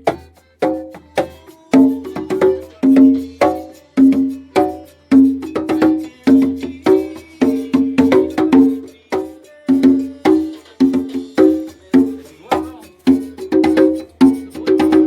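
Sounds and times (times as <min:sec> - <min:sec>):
instrumental band music: 0:00.0 - 0:15.0.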